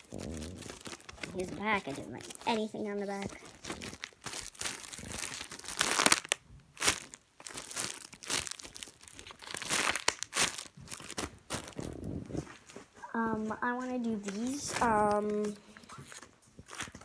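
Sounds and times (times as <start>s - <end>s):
plastic bag and paper crinkling: 0.0s - 17.0s.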